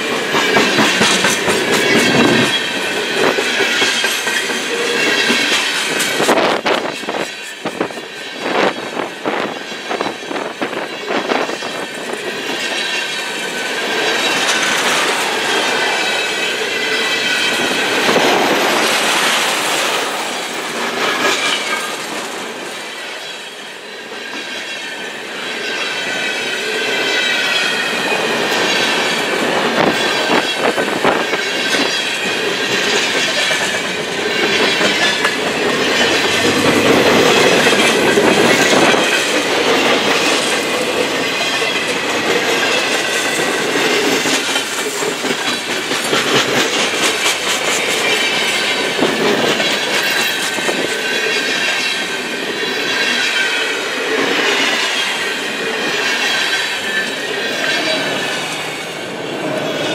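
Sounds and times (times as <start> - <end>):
train wheels clacking over rail joints: 0.0 - 58.8
high wheel squeal on rail: 0.0 - 59.9.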